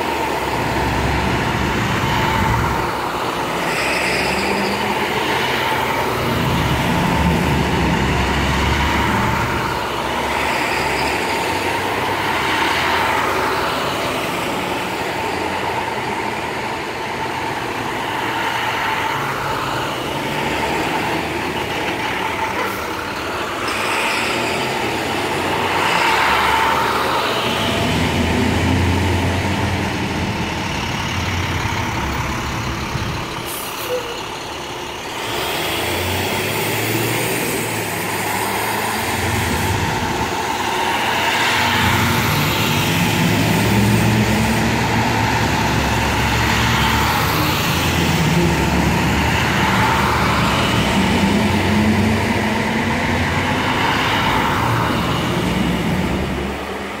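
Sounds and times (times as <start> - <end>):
bus engines rumbling past: 0.0 - 57.0.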